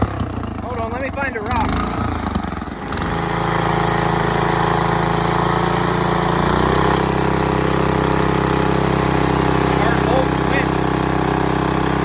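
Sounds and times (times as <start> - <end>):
garden tractor engine running: 0.0 - 12.0.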